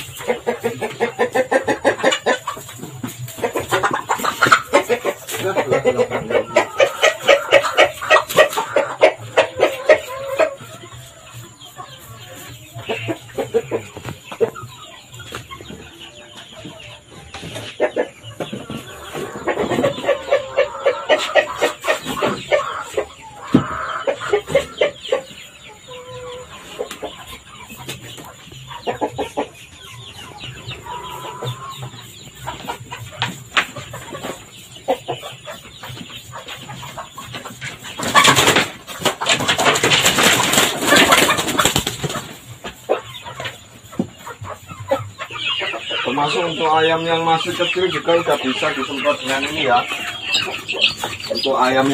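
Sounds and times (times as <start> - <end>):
chickens clucking and squawking: 0.0 - 51.9.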